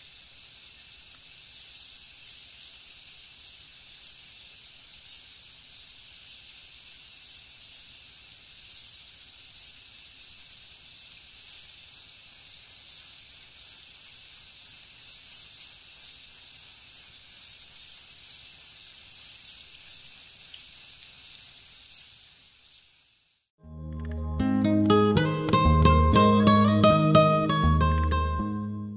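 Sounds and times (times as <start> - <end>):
insects chirring: 0.0 - 23.5.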